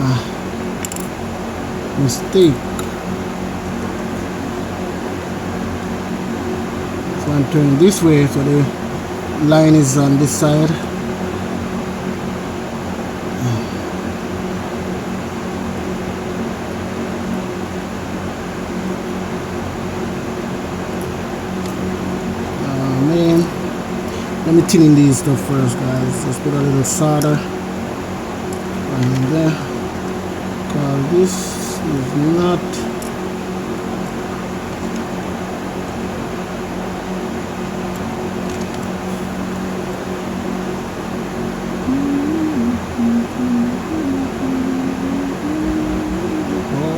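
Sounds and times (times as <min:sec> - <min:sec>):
fan running: 0:00.0 - 0:46.9.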